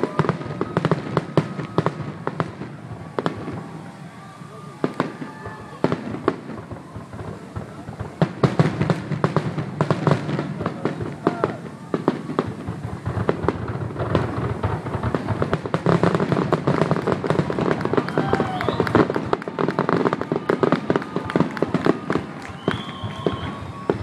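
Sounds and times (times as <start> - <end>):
fireworks popping and crackling: 0.0 - 24.0.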